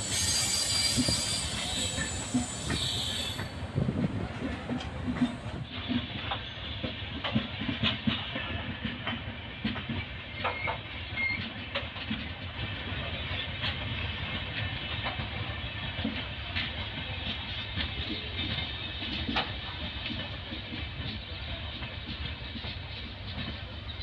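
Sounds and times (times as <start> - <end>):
train rail rumble: 0.0 - 24.0.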